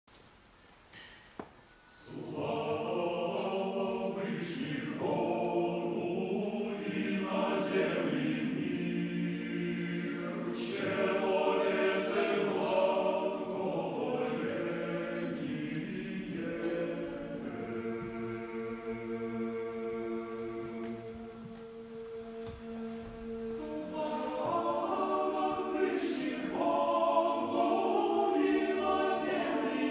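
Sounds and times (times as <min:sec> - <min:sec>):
male choir singing a cappella: 0:01.8 - 0:29.9.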